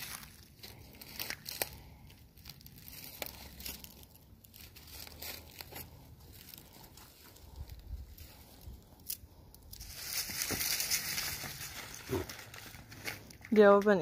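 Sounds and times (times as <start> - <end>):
footsteps crunching through weeds: 0.0 - 8.7, 9.8 - 13.4.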